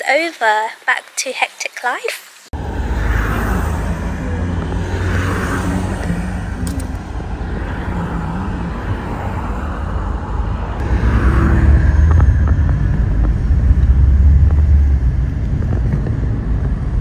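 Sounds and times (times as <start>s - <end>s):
car engine and road noise: 2.5s - 17.0s.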